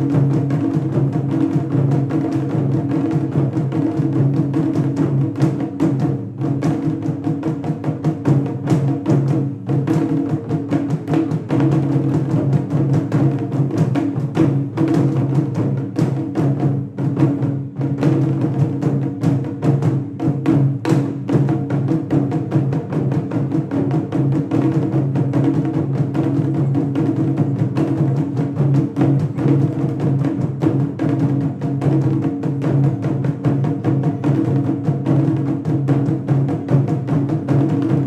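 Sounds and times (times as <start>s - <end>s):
taiko drums playing: 0.0s - 38.0s.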